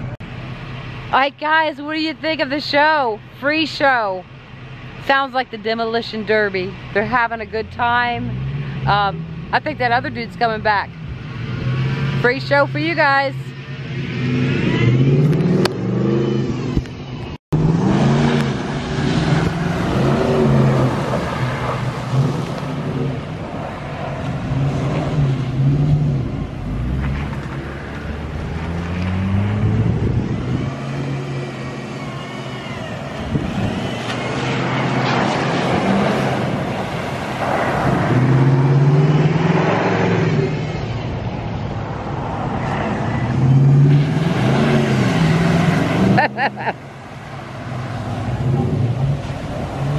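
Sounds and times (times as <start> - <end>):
truck engines revving: 0.0 - 49.9.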